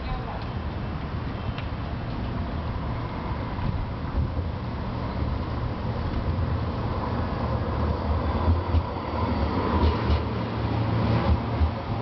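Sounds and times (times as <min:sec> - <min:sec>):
electric tram rumbling past: 0:00.0 - 0:12.0.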